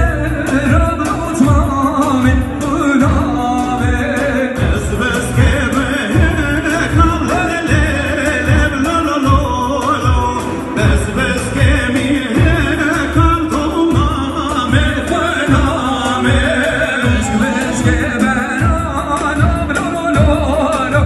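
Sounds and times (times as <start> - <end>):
person singing wavering melody: 0.0 - 21.0
steady low drum beat: 0.0 - 21.0.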